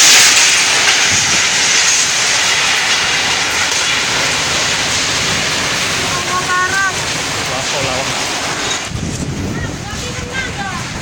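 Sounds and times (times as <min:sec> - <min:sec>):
strong storm wind: 0:00.0 - 0:11.0.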